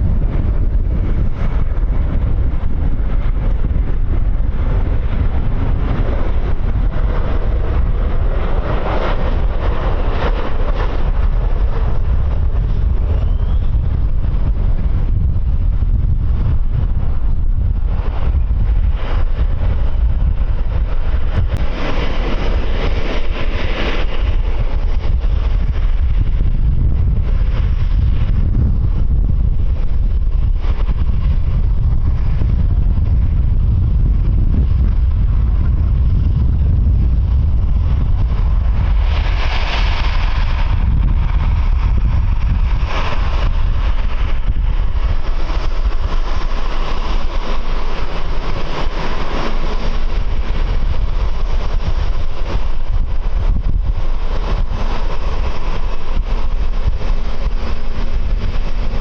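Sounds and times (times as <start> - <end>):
aircraft engine noise: 0.0 - 59.0
wind buffeting microphone: 0.0 - 59.0.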